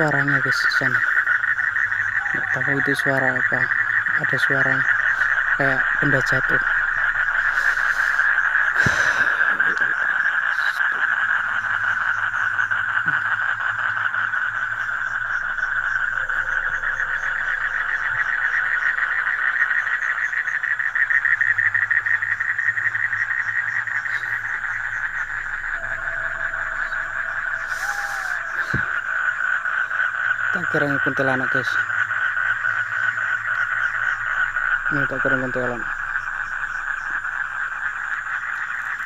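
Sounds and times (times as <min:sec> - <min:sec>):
frogs chorus trilling: 0:00.0 - 0:39.0.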